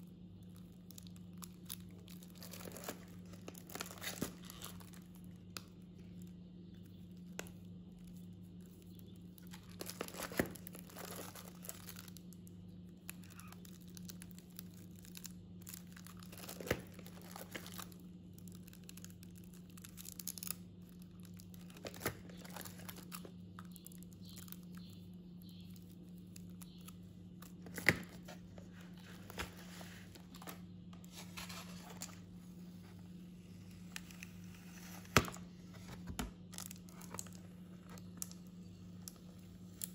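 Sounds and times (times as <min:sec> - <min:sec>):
steady low hum: 0:00.0 - 0:39.9
plastic wrap crinkling: 0:00.4 - 0:06.4, 0:07.1 - 0:39.9.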